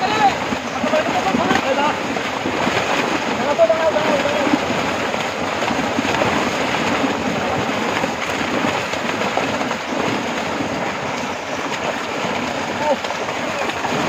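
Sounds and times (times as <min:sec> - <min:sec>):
fish thrashing and splashing water: 0:00.0 - 0:14.0.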